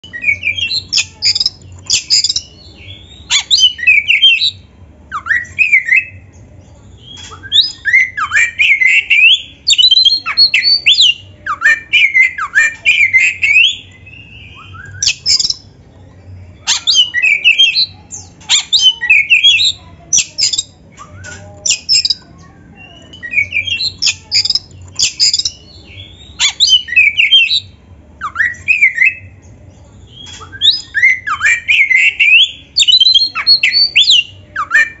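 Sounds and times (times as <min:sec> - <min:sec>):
magpie-robin singing whistled phrases: 0:00.0 - 0:06.4, 0:07.0 - 0:15.7, 0:16.6 - 0:29.4, 0:30.1 - 0:35.0.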